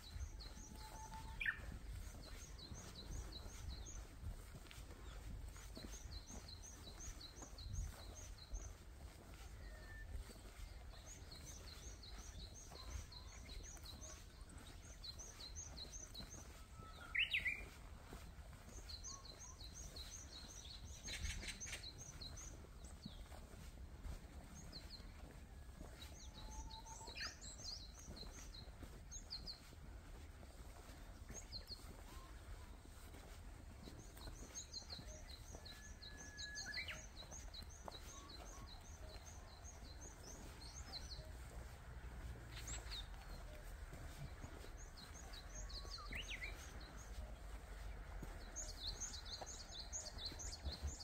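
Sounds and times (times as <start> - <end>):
small birds singing: 0.0 - 51.0.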